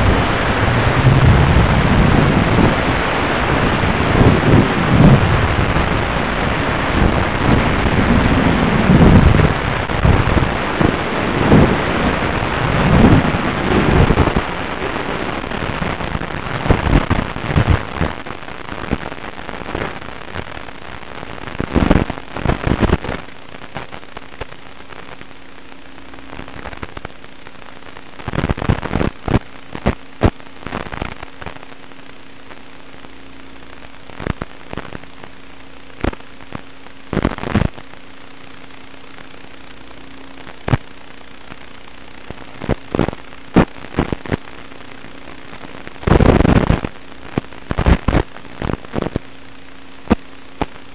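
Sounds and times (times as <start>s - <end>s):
rushing crackling radio noise: 0.0s - 50.9s
steady low hum: 0.0s - 50.9s.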